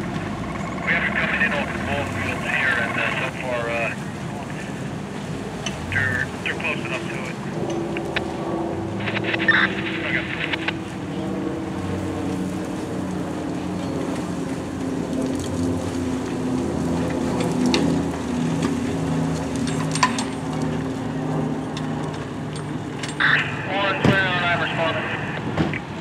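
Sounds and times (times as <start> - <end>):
truck engine running at low speed: 0.0 - 26.0.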